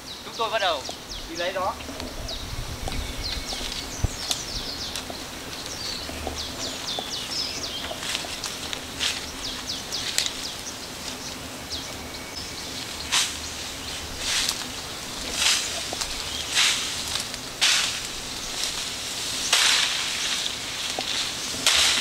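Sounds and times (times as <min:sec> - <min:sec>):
birds chirping: 0:00.0 - 0:22.0
brush and leaves rustling: 0:00.0 - 0:22.0.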